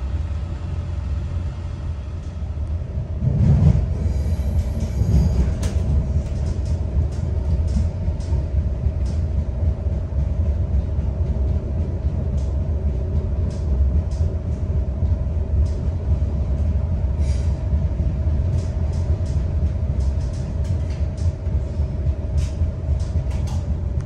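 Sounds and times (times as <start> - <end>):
constant hum: 0.0 - 24.0
low rumble of railcar: 0.0 - 24.0.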